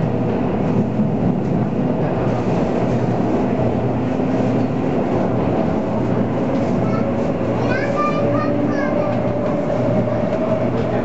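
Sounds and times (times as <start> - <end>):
train hum: 0.0 - 11.0
train wheels rumbling on rail: 0.0 - 11.0.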